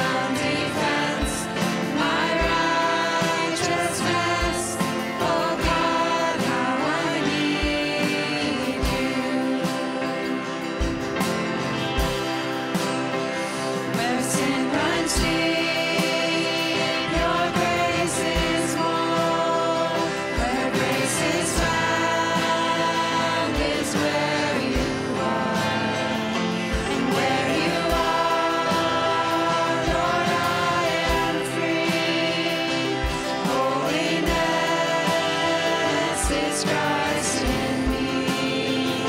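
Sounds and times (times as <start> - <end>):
worship song singing: 0.0 - 39.0.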